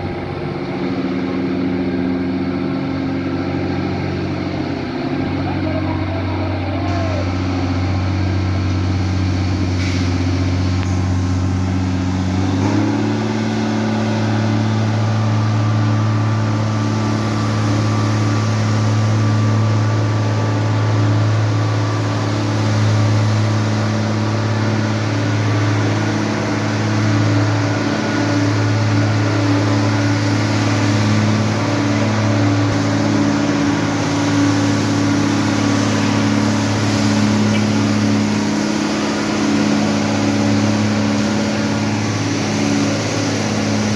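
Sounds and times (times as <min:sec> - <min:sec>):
truck engine running under load: 0:00.0 - 0:43.9.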